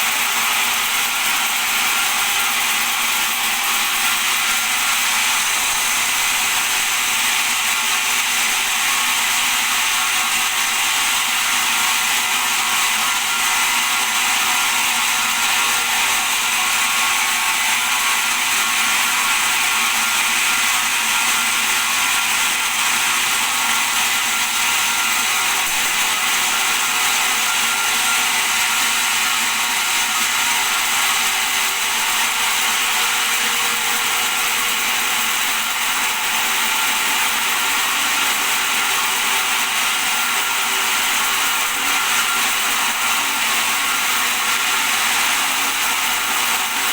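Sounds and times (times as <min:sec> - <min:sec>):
bandsaw running: 0:00.0 - 0:46.9.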